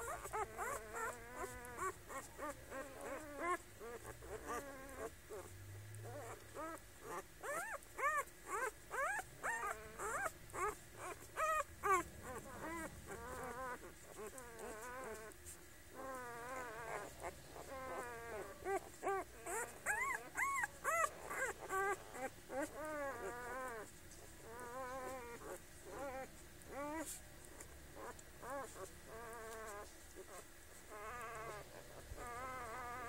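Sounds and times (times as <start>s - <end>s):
puppies whimpering and squeaking: 0.0s - 33.0s.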